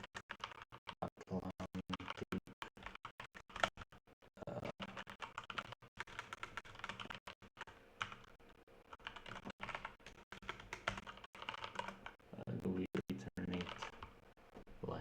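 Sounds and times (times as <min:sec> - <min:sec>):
computer keyboard typing: 0:00.0 - 0:03.9, 0:04.5 - 0:14.2.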